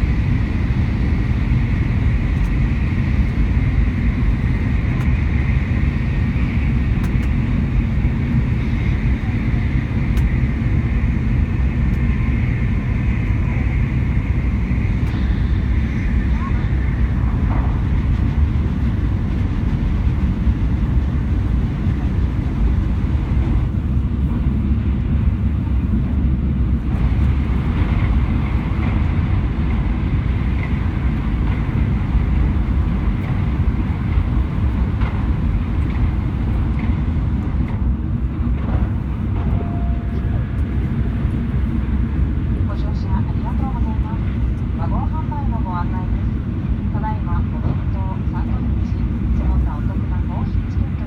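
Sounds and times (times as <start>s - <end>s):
train rumbling: 0.0s - 51.0s.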